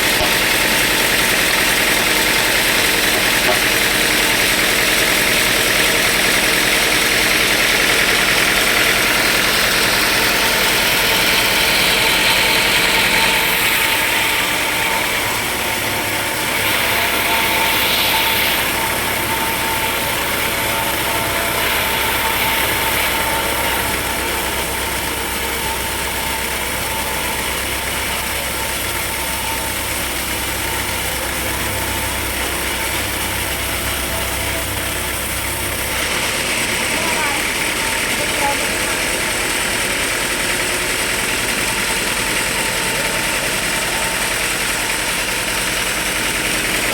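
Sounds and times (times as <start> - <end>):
sawmill machinery humming: 0.0 - 46.9.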